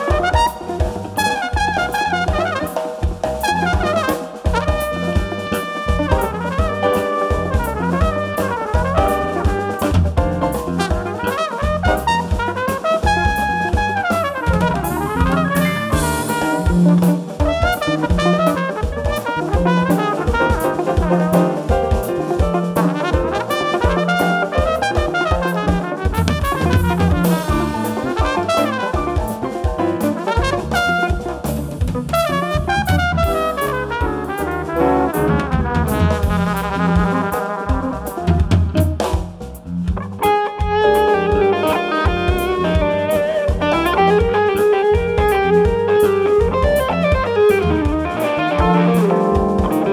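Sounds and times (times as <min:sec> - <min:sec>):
trumpet melody: 0:00.0 - 0:39.1, 0:40.2 - 0:49.9
bass guitar: 0:00.0 - 0:49.9
drum kit: 0:00.0 - 0:49.9.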